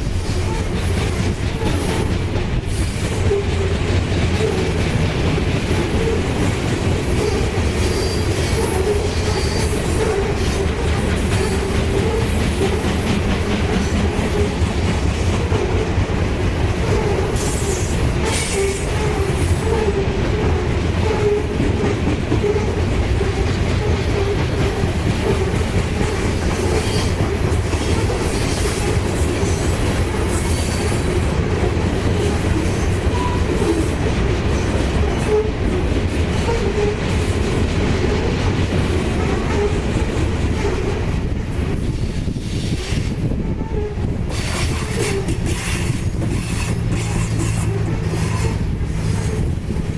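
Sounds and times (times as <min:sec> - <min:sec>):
freight train cars rolling past: 0:00.0 - 0:49.9.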